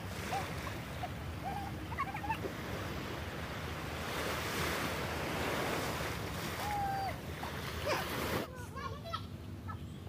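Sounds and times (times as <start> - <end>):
waves washing on sand: 0.0 - 8.5.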